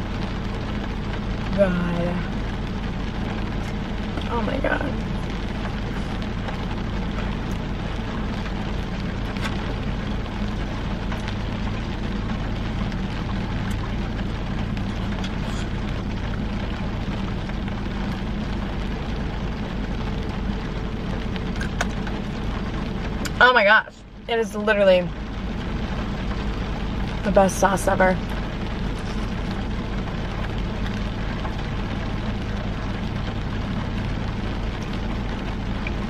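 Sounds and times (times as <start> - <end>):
car low hum: 0.0 - 36.0
heavy rain on car roof: 0.0 - 36.0.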